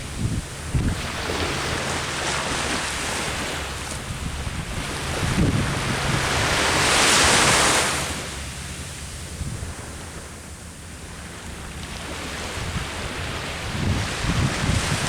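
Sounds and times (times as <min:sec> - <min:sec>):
ocean waves breaking: 0:00.0 - 0:15.0
wind rumble on microphone: 0:00.0 - 0:15.0.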